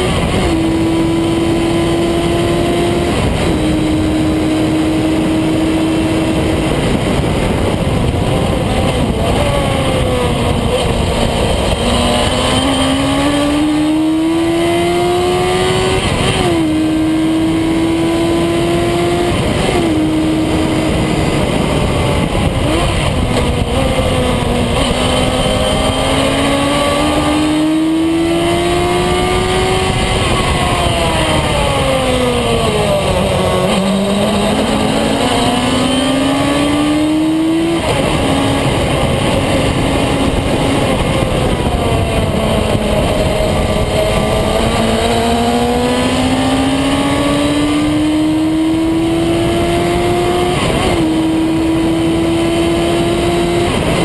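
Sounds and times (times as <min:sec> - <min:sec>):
race car engine revving: 0:00.0 - 0:54.0
wind and road noise: 0:00.0 - 0:54.0.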